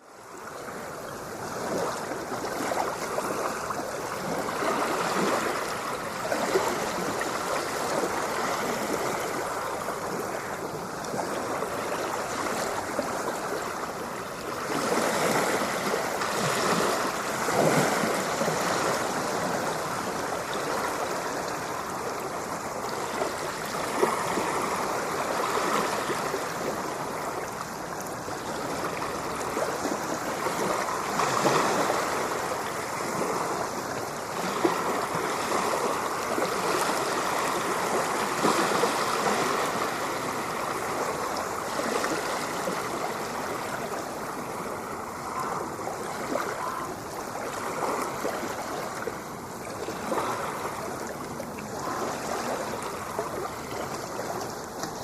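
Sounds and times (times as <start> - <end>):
ocean waves breaking: 0.0 - 55.0
rushing wash of surf: 0.0 - 55.0.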